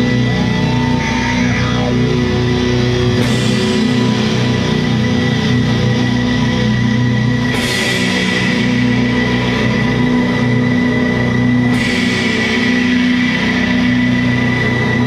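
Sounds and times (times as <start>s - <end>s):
distorted guitars and bass: 0.0s - 15.0s.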